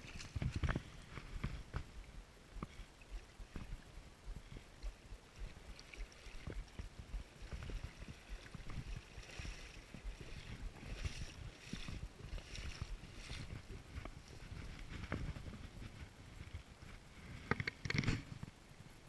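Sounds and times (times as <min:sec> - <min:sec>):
wading water splashes: 0:00.0 - 0:15.4
wind rumble on microphone: 0:00.0 - 0:19.0.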